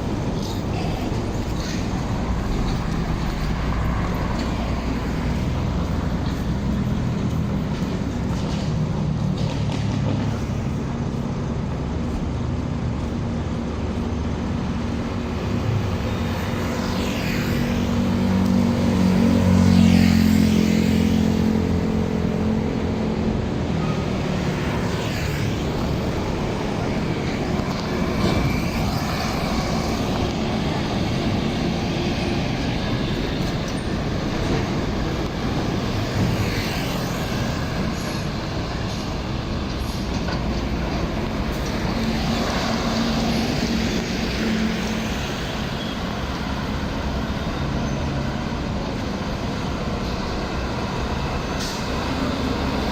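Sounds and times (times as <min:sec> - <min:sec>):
heavy trucks passing: 0:00.0 - 0:52.9
road traffic noise: 0:00.0 - 0:52.9.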